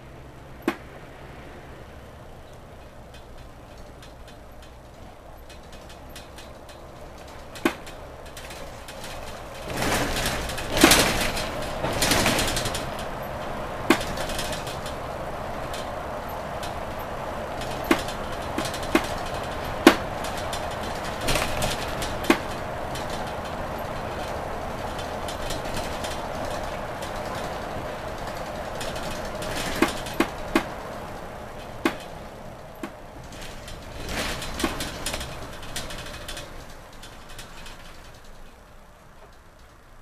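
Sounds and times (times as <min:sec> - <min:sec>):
bus engine and road noise: 0:00.0 - 0:40.0.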